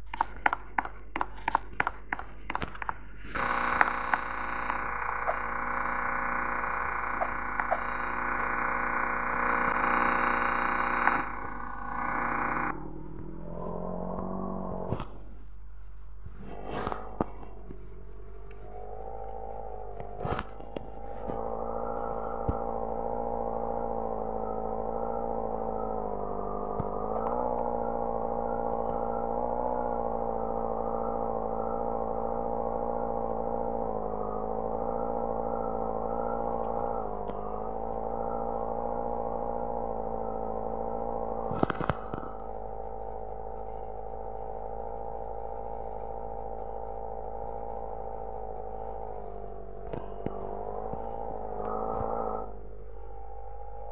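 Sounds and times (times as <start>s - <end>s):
motor whirring hum: 0.0s - 15.5s, 16.2s - 53.9s.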